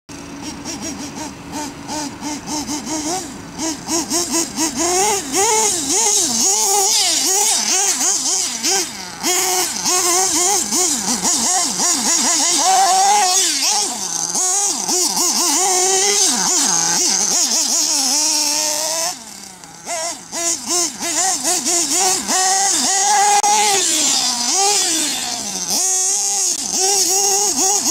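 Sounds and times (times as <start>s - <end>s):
rc buggy nitro engine revving: 0.1s - 27.9s.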